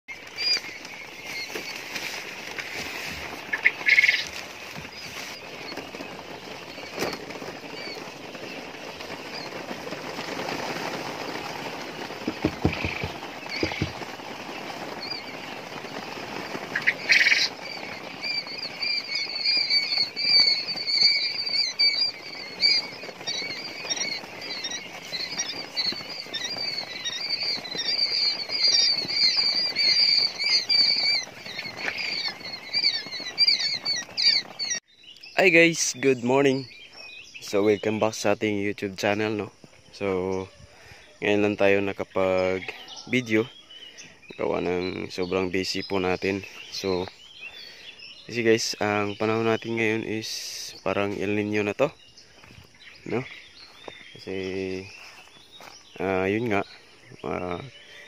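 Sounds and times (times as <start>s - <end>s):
chicks peeping: 0.1s - 58.0s.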